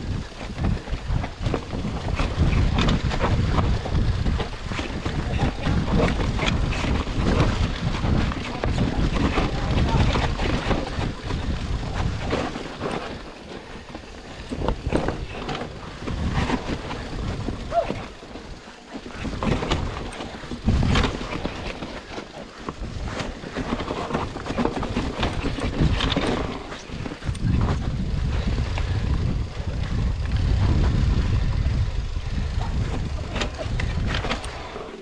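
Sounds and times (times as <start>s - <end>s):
bicycle knocks and rattles: 0.0s - 35.0s
wind gusting on microphone: 0.0s - 35.0s.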